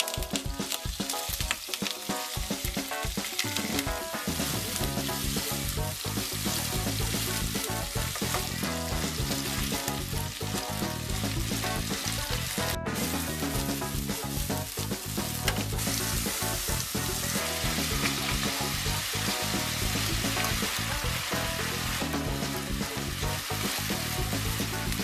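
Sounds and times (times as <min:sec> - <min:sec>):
background music with bass line: 0:00.0 - 0:25.0
chicken sizzling in hot oil: 0:00.0 - 0:25.0.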